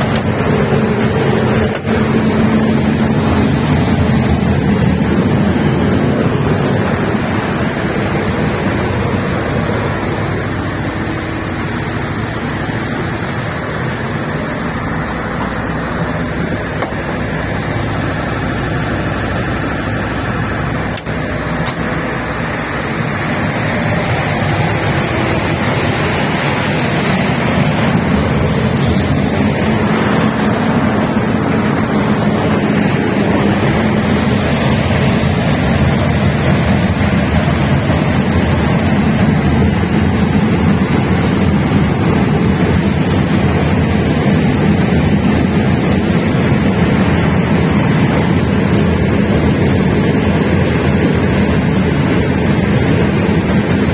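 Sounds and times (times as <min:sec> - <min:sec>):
diesel generator rumbling: 0:00.0 - 0:53.9.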